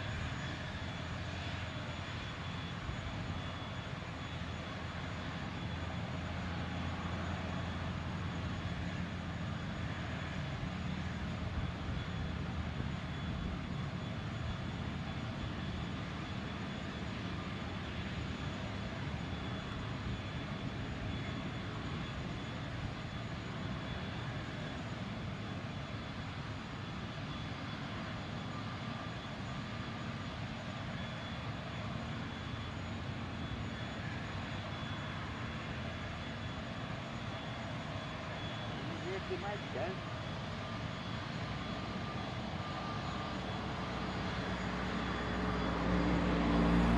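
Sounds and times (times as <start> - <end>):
high engine whine: 0.0 - 46.9
jet engines low rumble: 0.0 - 46.9.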